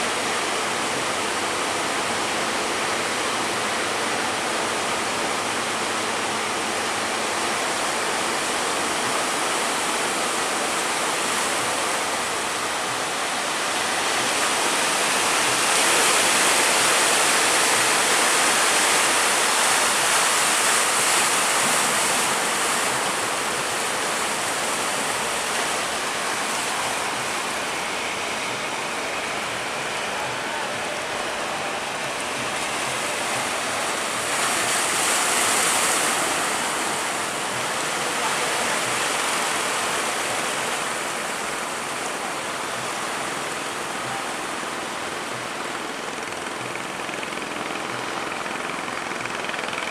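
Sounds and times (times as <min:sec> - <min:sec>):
waves breaking: 0:00.0 - 0:49.9.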